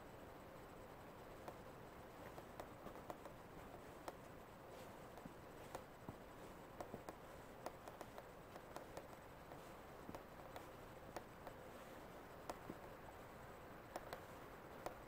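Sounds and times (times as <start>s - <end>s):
faint steady hiss: 0.0s - 15.0s
light clicks: 1.1s - 15.0s.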